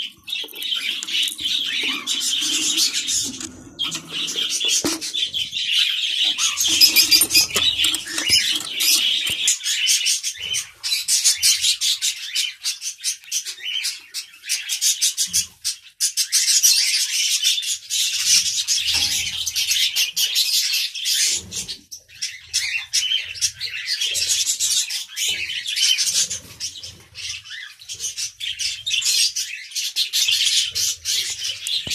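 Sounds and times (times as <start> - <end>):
caged birds chirping: 0.0 - 31.9.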